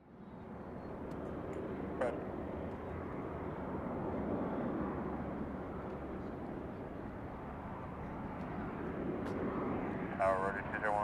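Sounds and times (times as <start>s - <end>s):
jet engines rushing: 0.5s - 11.0s.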